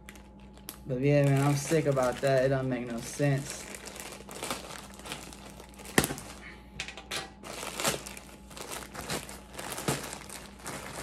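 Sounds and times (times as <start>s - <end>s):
packaging crinkling and rustling: 0.0s - 6.5s, 7.4s - 11.0s.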